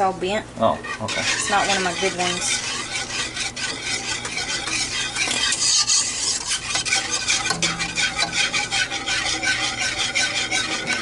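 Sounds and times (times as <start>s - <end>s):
utensil scraping a metal pot: 0.7s - 11.0s.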